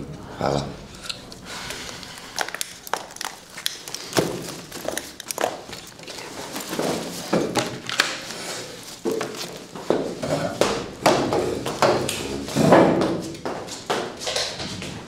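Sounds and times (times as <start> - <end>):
footsteps: 1.0 - 15.0.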